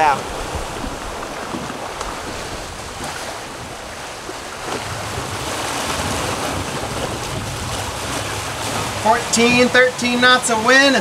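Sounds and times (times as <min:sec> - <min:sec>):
wind noise on microphone: 0:00.0 - 0:09.8
water rushing along boat hull: 0:00.0 - 0:11.0.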